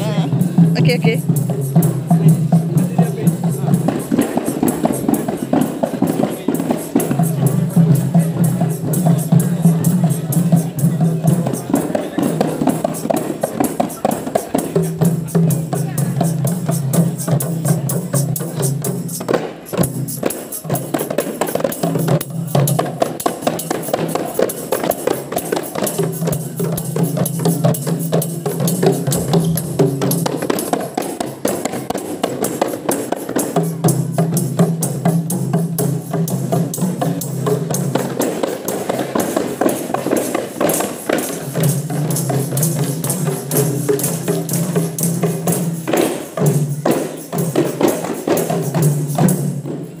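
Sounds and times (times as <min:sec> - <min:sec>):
frame drums slapped by hand: 0:00.0 - 0:50.0.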